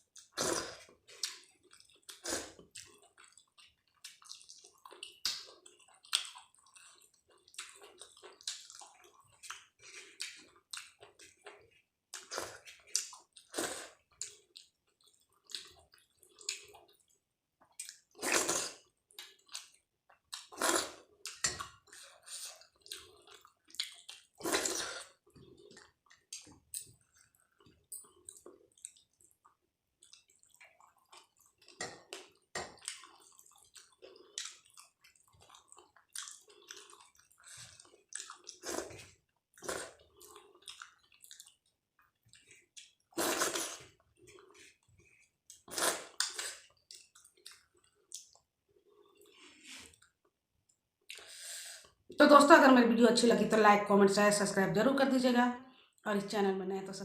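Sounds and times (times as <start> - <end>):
wet chewing of food: 0.0 - 52.2.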